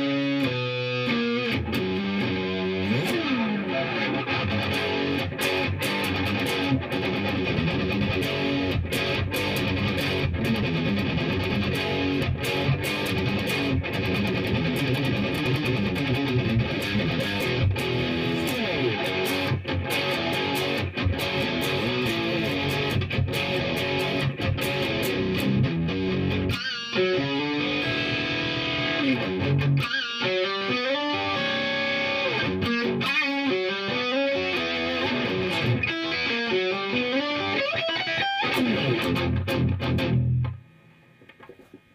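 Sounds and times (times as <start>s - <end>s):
electric guitar through amplifier: 0.0s - 41.9s.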